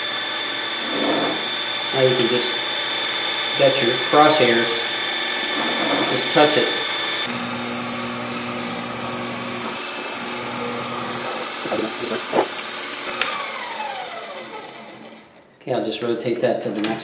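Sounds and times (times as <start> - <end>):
mill spindle motor running: 0.0 - 15.4.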